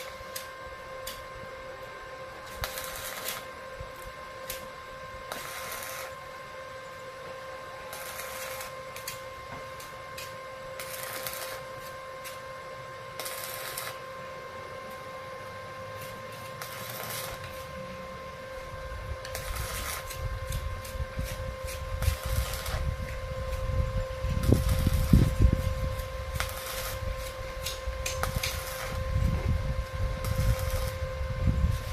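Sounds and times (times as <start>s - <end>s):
arc welding crackling hiss: 0.0s - 31.9s
steady hum: 0.0s - 31.9s.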